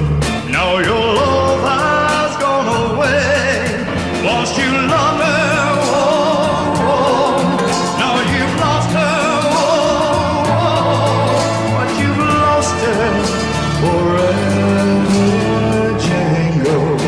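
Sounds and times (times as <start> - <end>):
bass line: 0.0 - 17.0
person singing with vibrato: 0.0 - 17.0
steady beat: 2.6 - 17.0.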